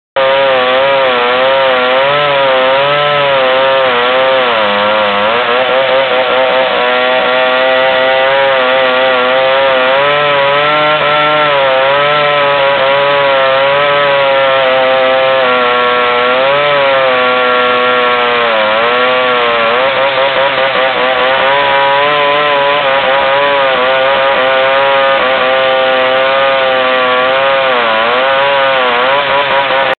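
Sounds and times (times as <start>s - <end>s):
chainsaw cutting wood: 0.2s - 30.0s.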